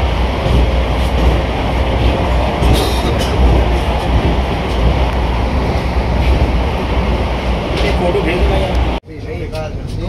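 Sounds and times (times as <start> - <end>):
rail noise: 0.0 - 10.0
train rumbling in motion: 0.0 - 10.0.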